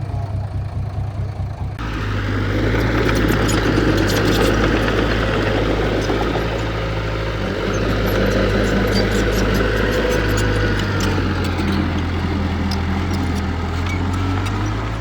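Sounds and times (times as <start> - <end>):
diesel engine running: 0.0 - 15.0
rushing clattering noise: 1.8 - 15.0.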